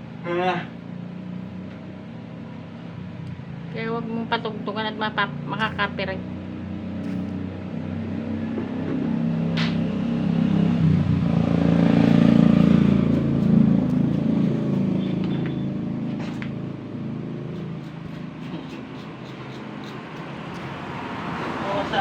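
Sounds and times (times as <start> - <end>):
vehicle engine passing: 0.7 - 22.0.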